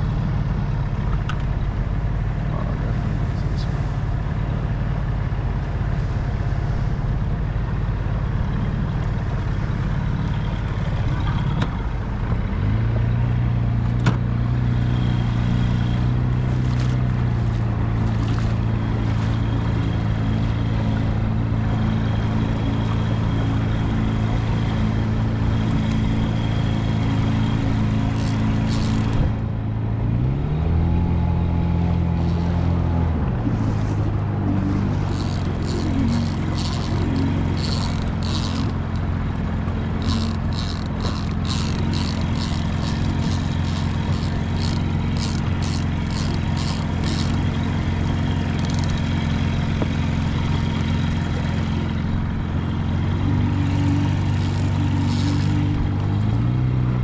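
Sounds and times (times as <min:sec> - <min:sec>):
small outboard motor running: 0:00.0 - 0:57.0.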